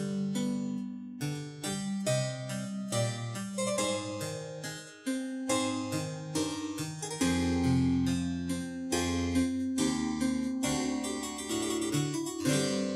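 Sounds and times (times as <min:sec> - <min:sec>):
harpsichord-like keyboard music: 0:00.0 - 0:12.9.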